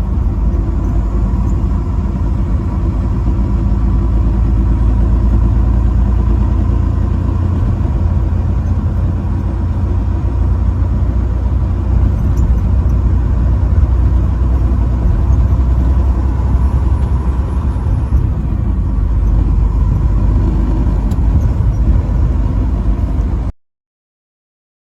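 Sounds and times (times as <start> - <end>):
vehicle engine rumbling: 0.0 - 23.5.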